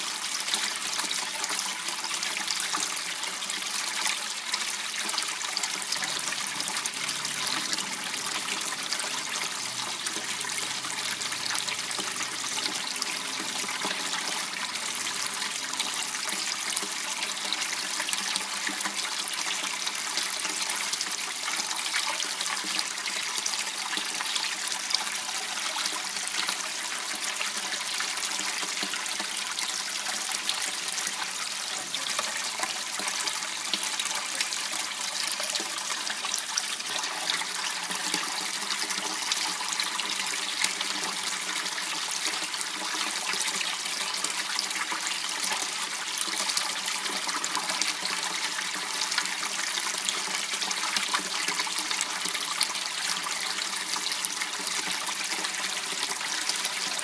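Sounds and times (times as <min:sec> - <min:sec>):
water trickling in a channel: 0:00.0 - 0:57.0.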